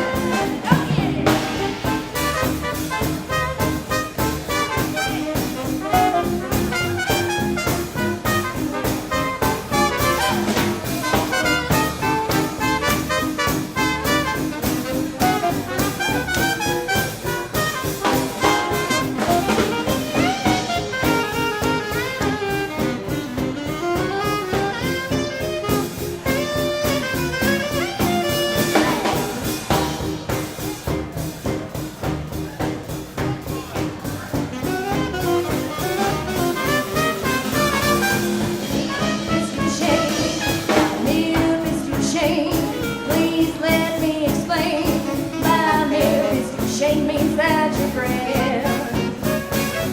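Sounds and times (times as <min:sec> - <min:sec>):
saxophone and brass lines: 0:00.0 - 0:31.2, 0:33.2 - 0:49.9
drum kit beat: 0:00.0 - 0:49.9.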